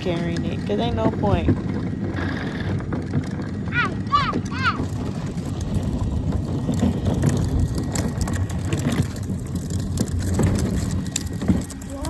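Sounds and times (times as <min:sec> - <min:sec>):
wheels rolling over rough pavement: 0:00.0 - 0:12.0.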